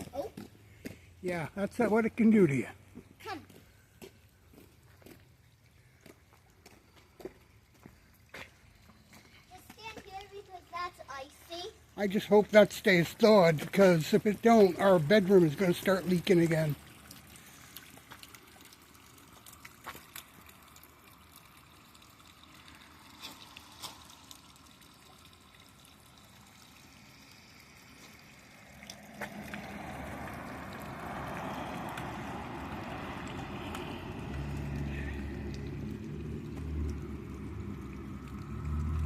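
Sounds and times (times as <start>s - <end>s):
melting ice dripping: 3.2s - 39.0s.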